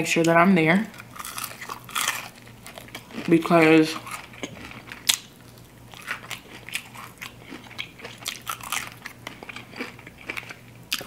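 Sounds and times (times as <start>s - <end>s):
crunchy chewing of fried chicken: 0.9s - 11.0s.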